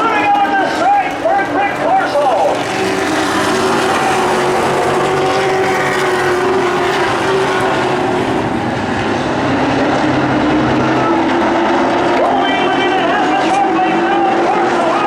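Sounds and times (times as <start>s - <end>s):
truck engines racing: 0.0s - 15.0s.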